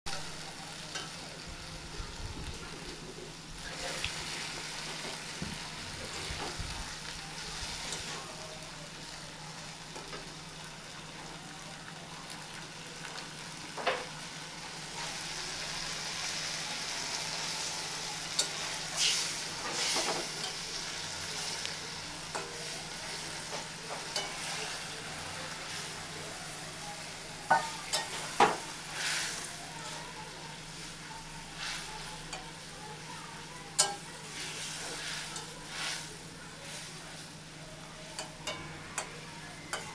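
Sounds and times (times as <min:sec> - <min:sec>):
curry sizzling in hot oil: 0:00.1 - 0:39.9.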